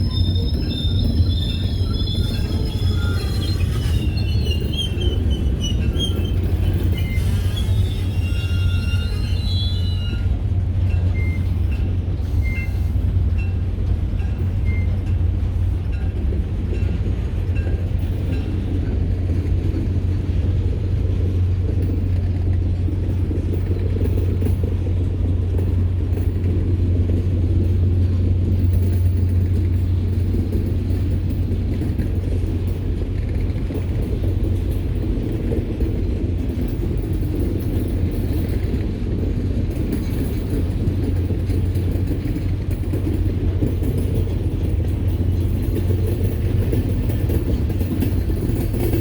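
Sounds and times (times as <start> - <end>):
train rumbling past: 0.0 - 49.0.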